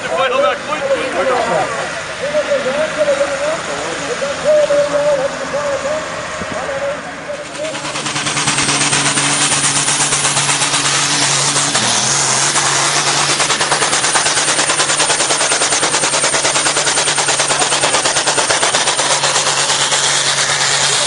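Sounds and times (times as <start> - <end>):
tractor diesel engine at full throttle: 0.0 - 21.0.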